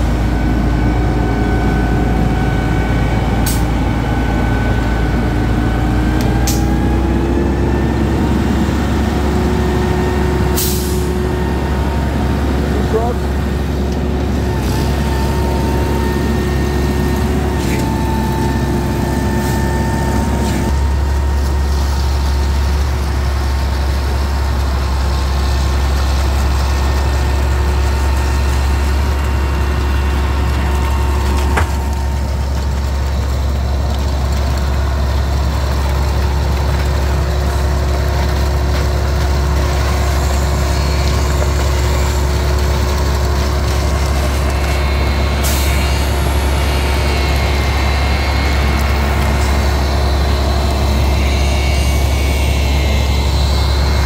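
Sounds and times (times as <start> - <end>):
diesel truck engines rumbling: 0.0 - 54.0.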